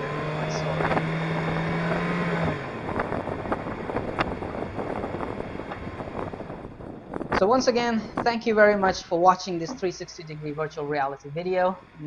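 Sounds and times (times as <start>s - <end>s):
car engine running: 0.0s - 12.0s
wind noise: 0.0s - 12.0s.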